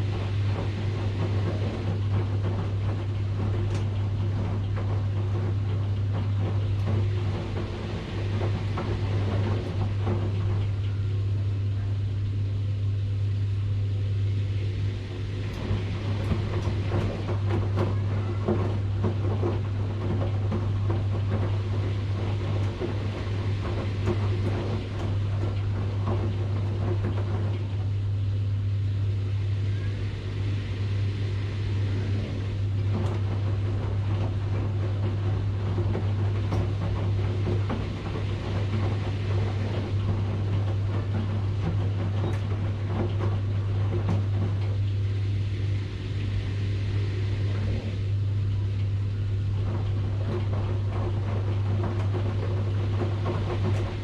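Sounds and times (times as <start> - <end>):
washing machine drum clattering: 0.0 - 54.0
washing machine motor hum: 0.0 - 54.0.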